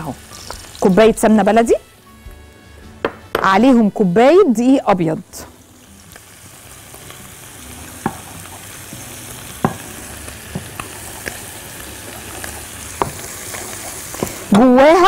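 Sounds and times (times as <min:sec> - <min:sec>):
flour sizzling in wok: 0:00.0 - 0:02.8, 0:04.6 - 0:15.0.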